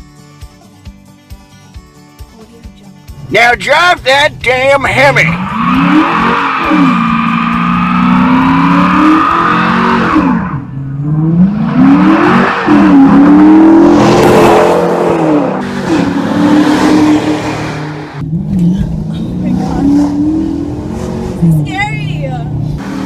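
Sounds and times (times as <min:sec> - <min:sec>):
car exhaust accelerating hard: 0:04.2 - 0:23.0.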